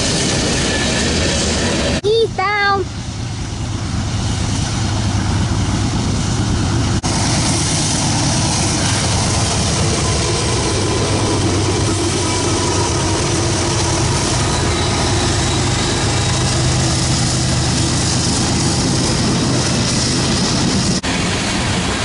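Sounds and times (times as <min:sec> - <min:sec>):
diesel locomotive engines humming: 0:00.0 - 0:22.0
wheels rumbling on rails: 0:00.0 - 0:22.0.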